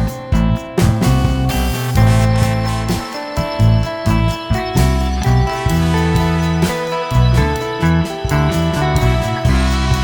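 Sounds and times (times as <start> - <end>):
plucked guitar: 0.0 - 10.0
rhythmic bass line: 0.0 - 10.0.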